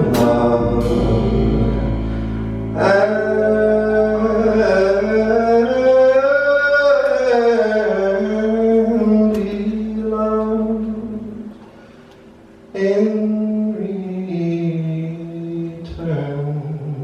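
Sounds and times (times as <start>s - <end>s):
man singing jazz ballad: 0.0s - 11.7s, 12.7s - 17.0s
low sustained accompaniment: 0.0s - 15.5s.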